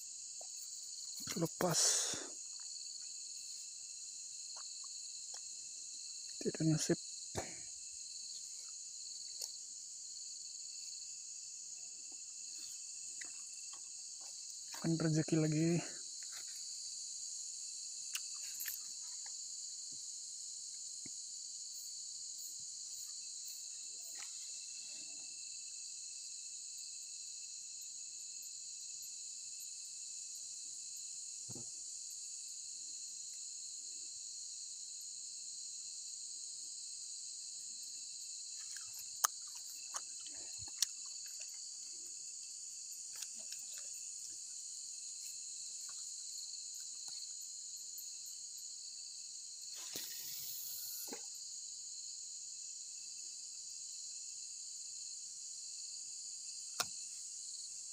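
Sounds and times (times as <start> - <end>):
insect chorus shrilling: 0.0 - 57.9.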